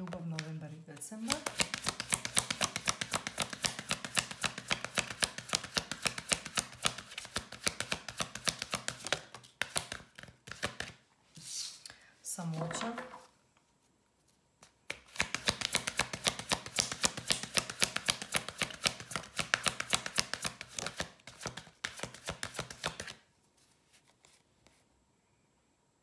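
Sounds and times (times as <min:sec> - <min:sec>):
cards being shuffled: 0:00.0 - 0:11.0, 0:14.2 - 0:24.8.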